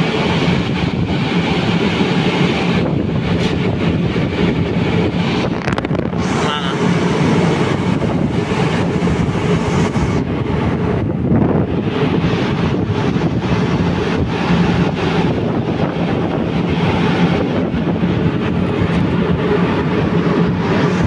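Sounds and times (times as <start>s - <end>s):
boat engine humming: 0.0s - 21.0s
wind buffeting microphone: 0.0s - 21.0s.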